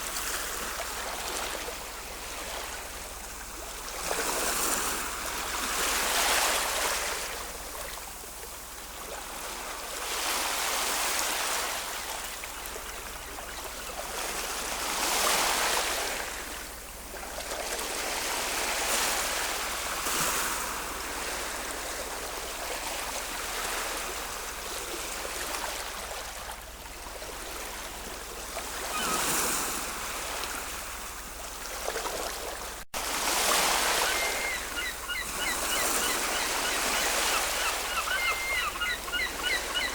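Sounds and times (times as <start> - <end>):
ocean waves breaking ashore: 0.0 - 39.9.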